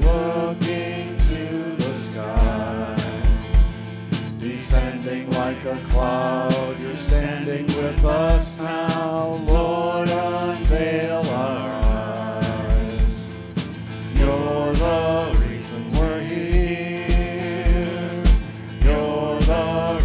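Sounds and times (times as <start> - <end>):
man and woman singing: 0.0 - 13.4, 14.1 - 20.0
acoustic guitar: 0.0 - 20.0
drum beat: 0.0 - 20.0
electric bass: 0.0 - 20.0
keyboard: 0.0 - 20.0.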